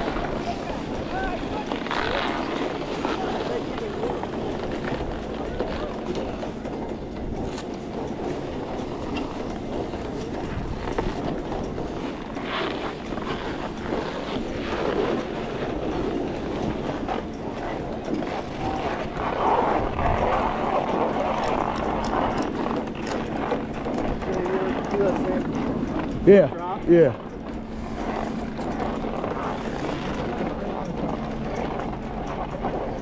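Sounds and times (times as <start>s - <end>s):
skis scraping over snow: 0.0s - 6.7s, 7.3s - 33.0s.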